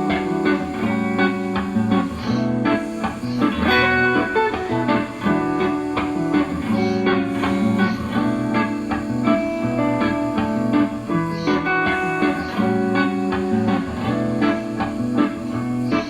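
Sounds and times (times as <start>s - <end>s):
guitar plucking and strumming: 0.0s - 16.0s.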